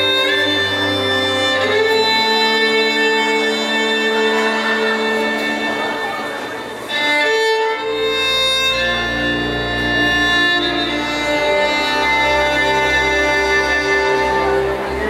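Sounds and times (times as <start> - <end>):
slow string music over loudspeakers: 0.0 - 15.0.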